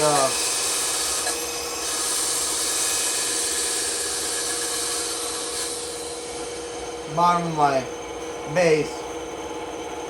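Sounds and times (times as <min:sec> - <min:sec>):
bandsaw running: 0:00.0 - 0:09.0.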